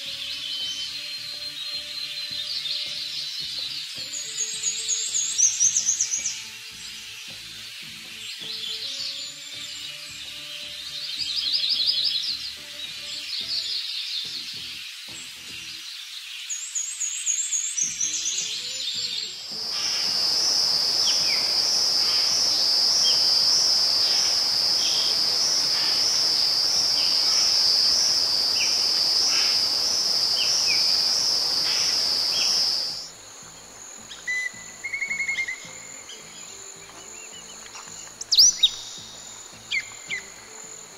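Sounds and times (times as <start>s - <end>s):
bird chirps: 0.0s - 40.9s
insect high-pitched trill: 0.0s - 40.9s.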